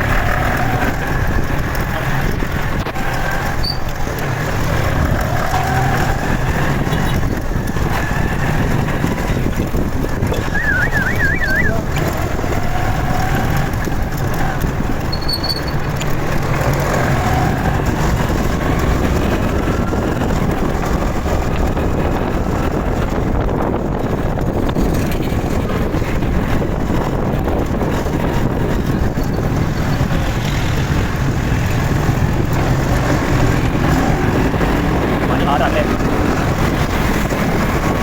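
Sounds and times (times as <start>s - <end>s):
motorcycle engine and wind noise: 0.0s - 38.0s
traffic: 0.0s - 38.0s.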